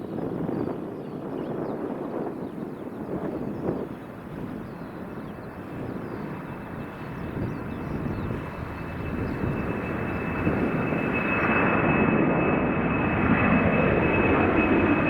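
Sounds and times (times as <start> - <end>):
jet engines rumble: 0.0 - 15.0.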